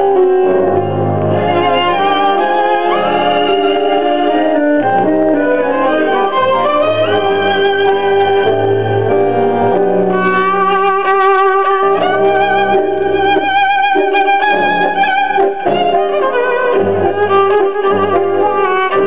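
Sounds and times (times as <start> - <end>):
steady bass line: 0.0 - 19.0
violin melody with vibrato: 0.0 - 19.0.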